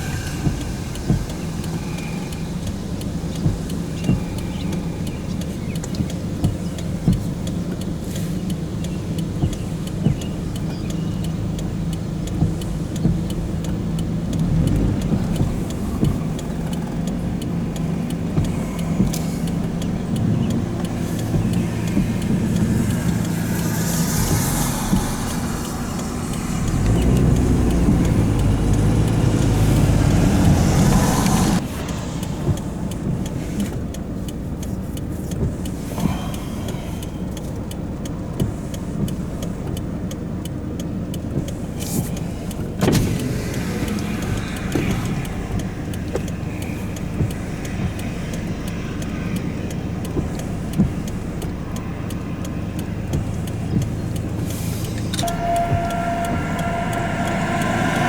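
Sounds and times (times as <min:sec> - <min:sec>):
car engine rumble: 0:00.0 - 0:58.0
road and wind noise: 0:00.0 - 0:58.0.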